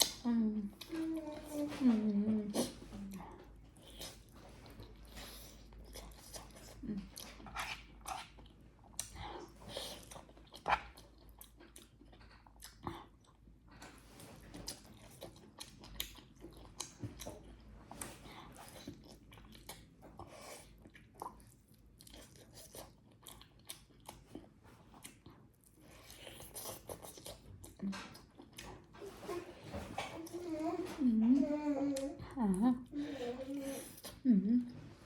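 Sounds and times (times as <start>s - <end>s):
chewing and crunching food: 0.0s - 31.0s.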